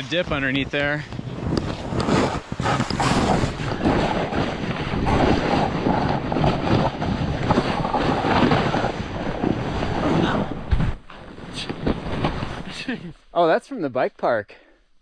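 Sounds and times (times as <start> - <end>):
wind noise on microphone: 0.0 - 12.7
snowboard scraping over snow: 0.0 - 13.1.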